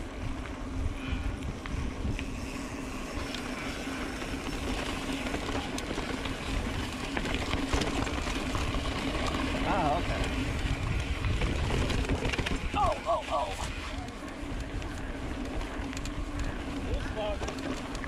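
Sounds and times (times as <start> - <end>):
bike clicks and rattles: 0.0 - 18.0
bike tyres on rocky trail: 0.0 - 18.0
steady hum: 0.0 - 18.0
wind rumble on microphone: 0.0 - 18.0.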